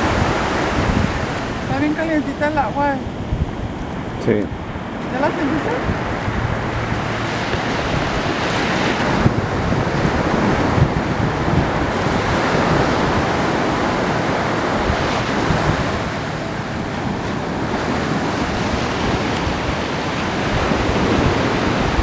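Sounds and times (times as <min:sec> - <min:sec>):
ocean surf washing onto beach: 0:00.0 - 0:22.0.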